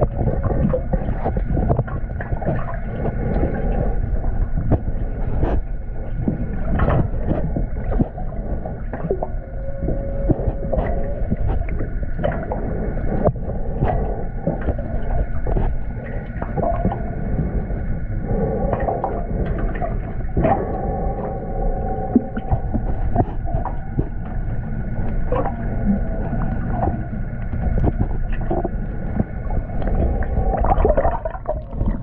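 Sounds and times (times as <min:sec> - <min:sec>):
faint wavering whines: 0:00.0 - 0:32.0
muffled underwater rumble: 0:00.0 - 0:32.0.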